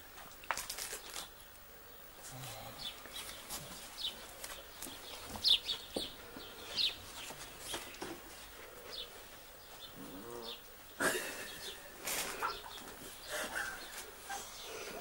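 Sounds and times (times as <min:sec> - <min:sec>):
small birds chirping: 0:00.8 - 0:15.0.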